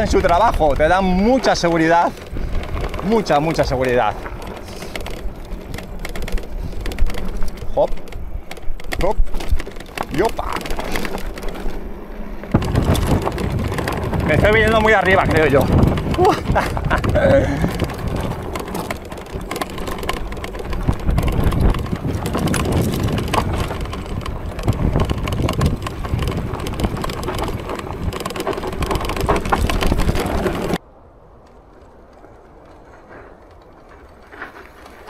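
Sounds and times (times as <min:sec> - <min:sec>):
wind on microphone: 0:00.0 - 0:11.6, 0:12.4 - 0:30.8
bike rattling over bumps: 0:00.0 - 0:35.0
bike tyres rolling on dirt: 0:00.0 - 0:35.0
quiet outdoor background: 0:00.0 - 0:35.0.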